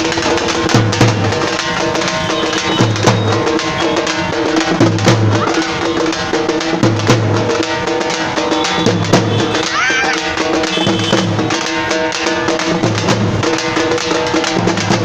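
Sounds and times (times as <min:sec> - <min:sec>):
large drums beaten with sticks: 0:00.0 - 0:15.0.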